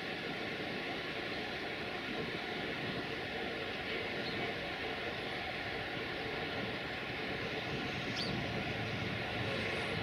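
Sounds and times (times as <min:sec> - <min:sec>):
electric train running hiss: 0:00.0 - 0:10.0.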